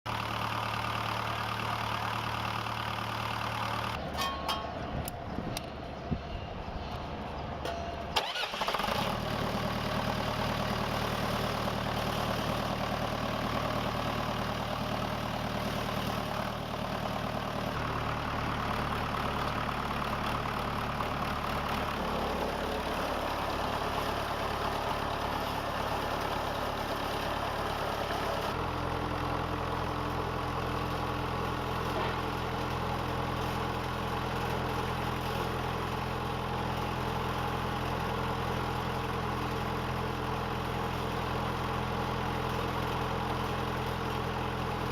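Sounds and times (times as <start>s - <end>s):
diesel engine running under load: 0.1s - 44.9s.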